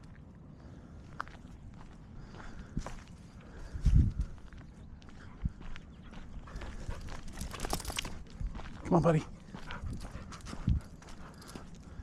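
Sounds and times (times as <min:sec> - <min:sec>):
footsteps: 0:01.1 - 0:12.0.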